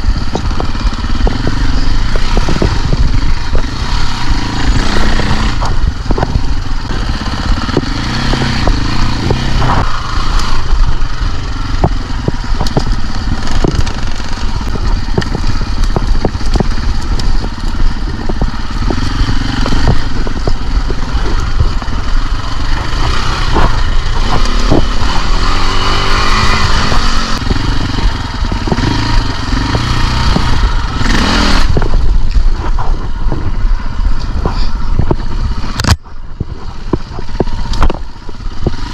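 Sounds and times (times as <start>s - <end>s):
knocks and clatter: 0.0s - 33.6s
dirt bike engine revving: 0.0s - 38.9s.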